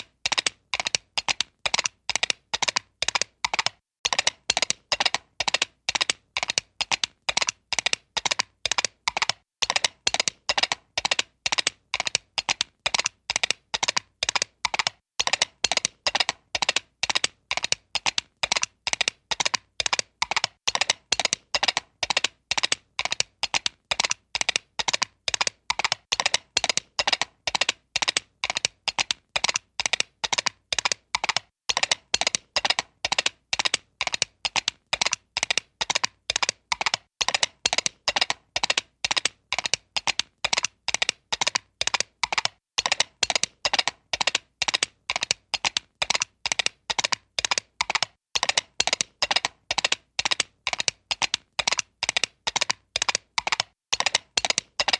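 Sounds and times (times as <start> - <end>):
horse hooves clip-clop: 0.0 - 54.9.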